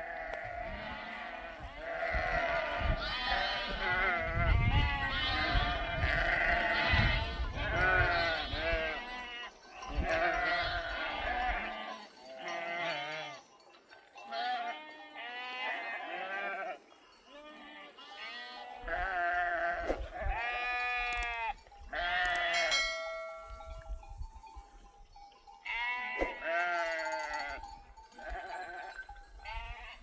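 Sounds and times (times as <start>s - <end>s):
animals bleating: 0.0s - 13.4s, 14.2s - 23.9s, 25.6s - 30.0s.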